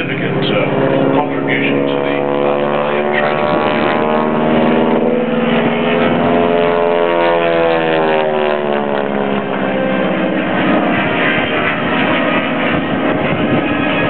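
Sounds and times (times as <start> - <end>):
propeller aircraft engine droning: 0.0 - 14.0.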